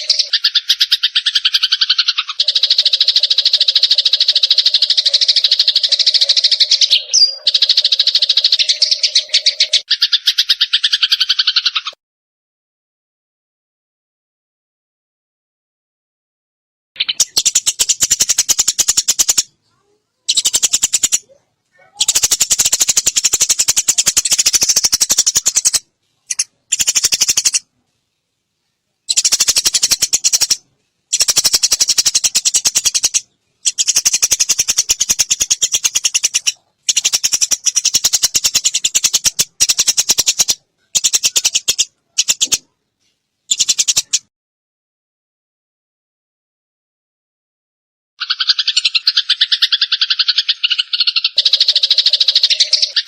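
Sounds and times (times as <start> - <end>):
sparrows chattering chirps: 0.0 - 12.0, 17.0 - 27.7, 29.0 - 44.2, 48.2 - 53.0.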